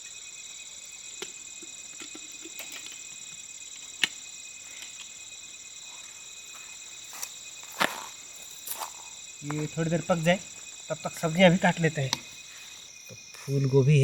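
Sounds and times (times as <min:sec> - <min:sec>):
crickets and insects trilling: 0:00.0 - 0:14.0.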